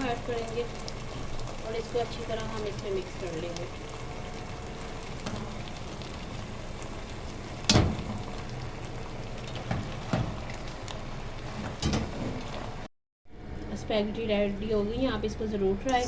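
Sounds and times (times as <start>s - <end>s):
food sizzling in a pan: 0.0s - 12.9s.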